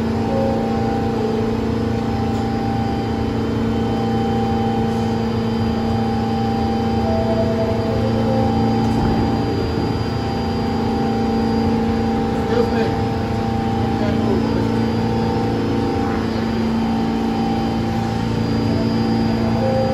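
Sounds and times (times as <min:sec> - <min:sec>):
subway train equipment humming: 0:00.0 - 0:19.9.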